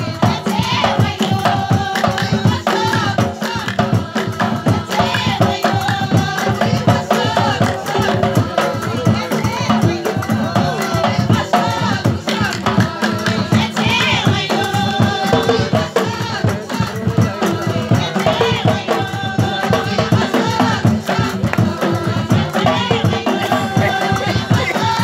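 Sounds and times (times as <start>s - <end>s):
men singing in chorus: 0.0s - 25.0s
percussion: 0.0s - 25.0s.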